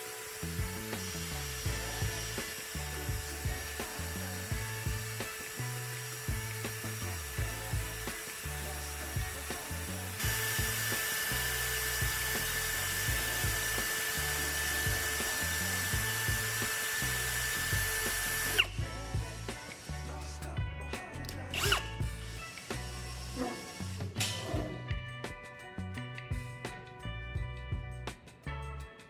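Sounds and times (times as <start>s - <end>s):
power tool whining: 0.0s - 25.0s
background music with beat: 0.0s - 29.0s.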